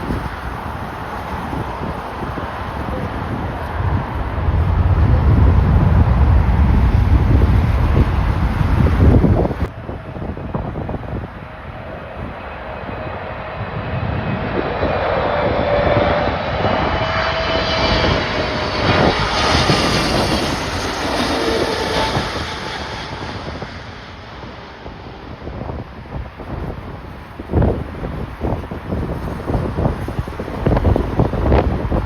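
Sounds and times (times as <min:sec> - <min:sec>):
jet engines passing: 0:00.0 - 0:32.0
wind buffeting microphone: 0:00.0 - 0:32.0.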